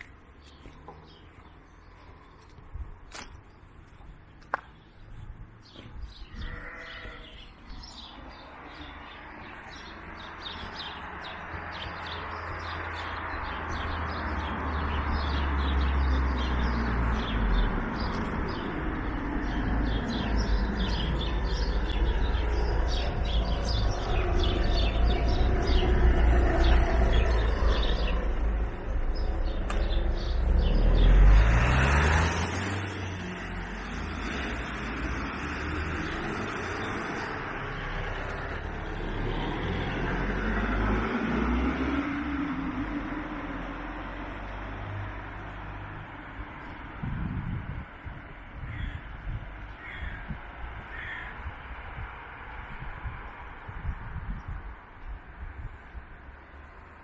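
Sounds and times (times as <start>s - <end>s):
small birds chirping: 0.0s - 39.5s, 45.3s - 52.0s
road vehicle passing by: 0.0s - 57.0s.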